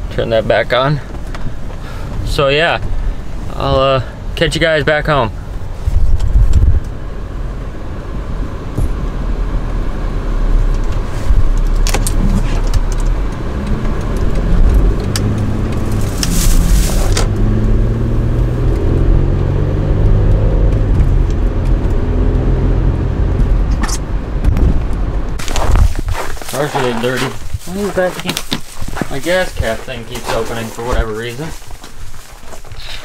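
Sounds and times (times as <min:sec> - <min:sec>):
road noise: 0:00.0 - 0:33.0
car engine accelerating: 0:00.1 - 0:31.5.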